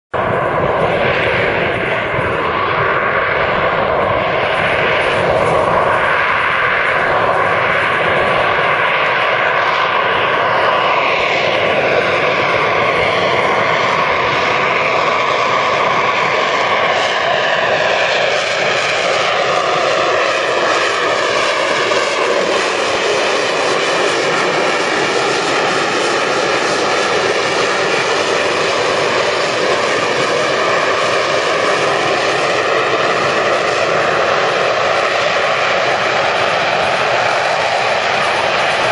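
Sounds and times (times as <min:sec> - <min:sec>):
jet engine roaring while hovering: 0:00.1 - 0:38.9.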